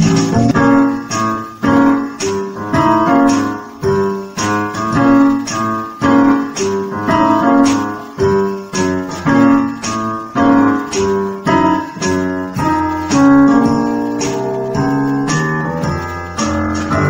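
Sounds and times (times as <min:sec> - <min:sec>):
piano-like keyboard chords: 0:00.0 - 0:17.0.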